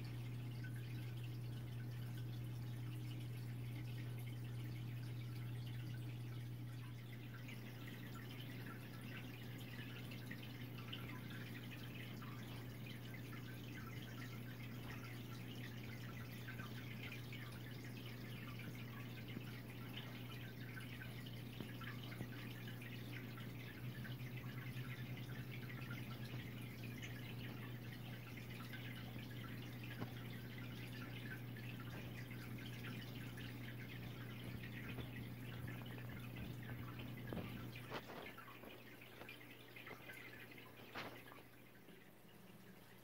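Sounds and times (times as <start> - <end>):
aquarium water dripping and bubbling: 0.0 - 43.0
filter humming: 0.0 - 43.0.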